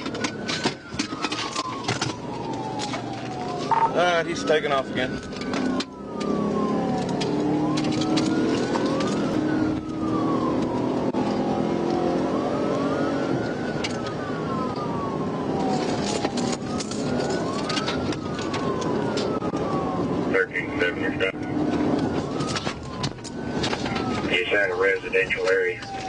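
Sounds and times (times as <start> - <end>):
police siren wailing: 0.0 - 26.0.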